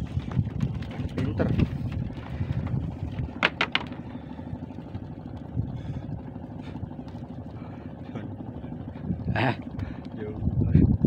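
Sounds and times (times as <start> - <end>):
engine throbbing: 0.0 - 11.0.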